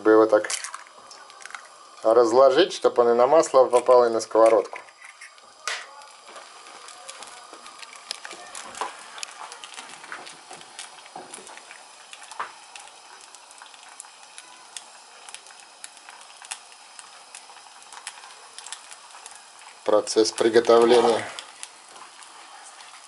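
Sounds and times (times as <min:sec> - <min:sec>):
crackling pops: 0:00.0 - 0:23.0
egg sizzling in frying pan: 0:00.0 - 0:23.0.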